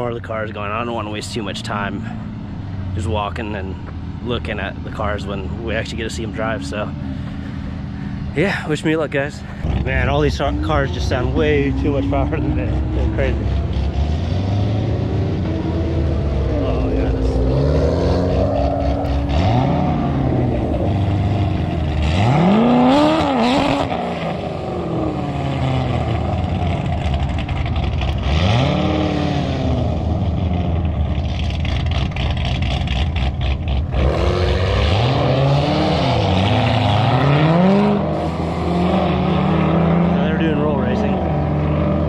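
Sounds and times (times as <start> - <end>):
car engines idling and revving: 0.0 - 42.0.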